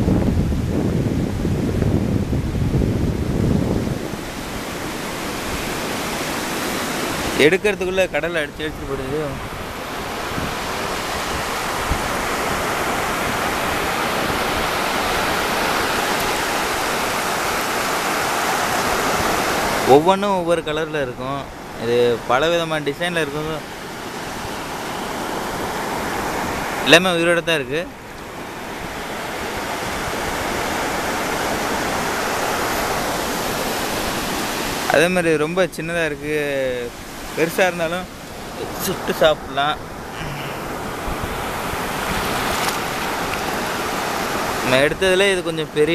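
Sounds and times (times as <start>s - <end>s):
surf washing over sand: 0.0s - 45.9s.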